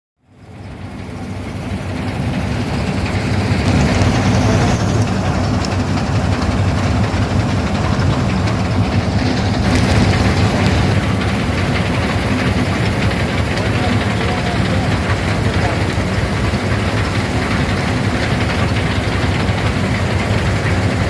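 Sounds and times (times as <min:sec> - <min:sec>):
combine harvester running: 0:00.2 - 0:21.0.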